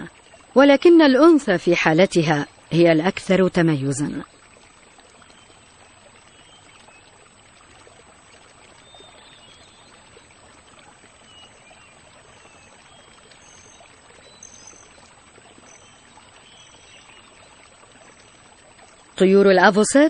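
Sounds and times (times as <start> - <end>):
soft water rush: 0.0 - 20.0.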